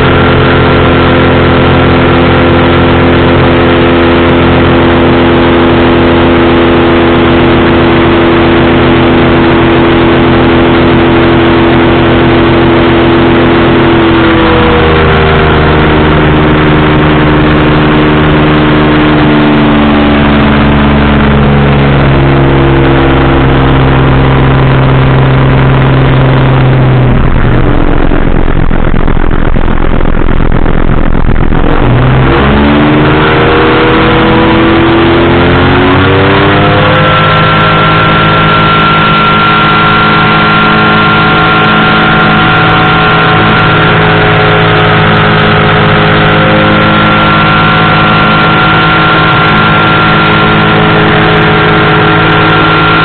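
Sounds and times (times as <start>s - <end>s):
engine and propeller running: 0.0s - 53.0s.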